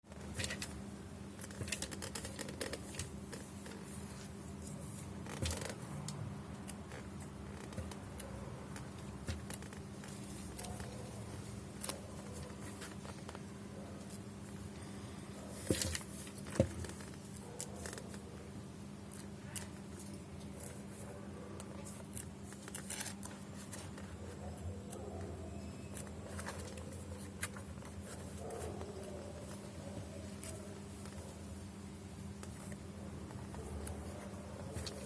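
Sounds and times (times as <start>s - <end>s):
light handling clicks and rustles: 0.1s - 14.9s, 15.5s - 18.4s, 19.0s - 31.6s.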